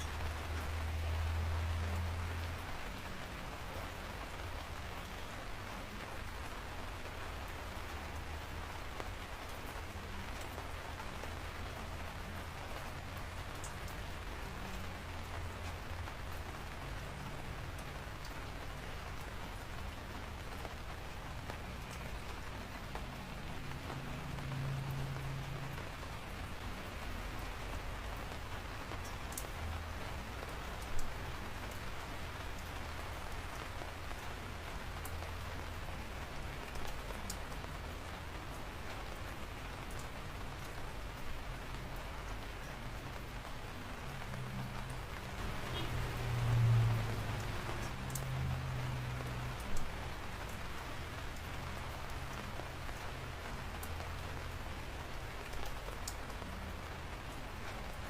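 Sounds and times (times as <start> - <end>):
close raindrops striking: 0.0 - 58.0
steady rain hiss: 0.0 - 58.0.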